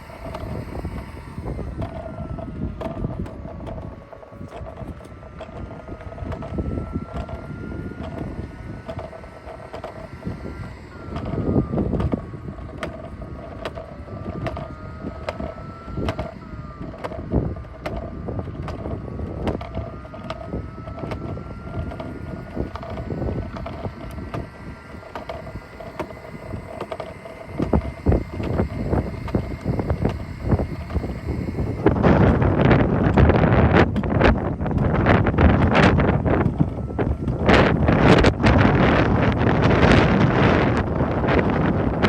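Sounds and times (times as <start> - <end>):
robot vacuum motor whine: 0.0 - 42.0
small clicks: 0.0 - 42.0
wind rumble on microphone: 0.0 - 42.0.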